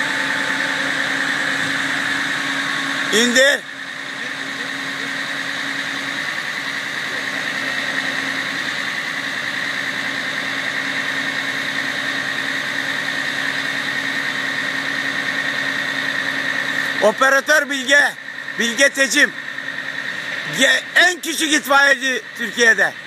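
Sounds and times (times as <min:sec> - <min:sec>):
fire truck engine drone: 0:00.0 - 0:23.0
high steady whine: 0:00.0 - 0:23.0.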